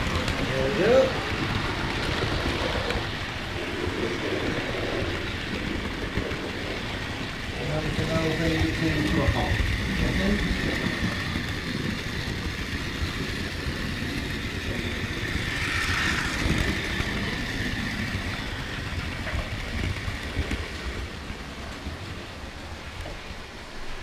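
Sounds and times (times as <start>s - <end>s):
small wheels rumbling on track: 0.0s - 24.0s.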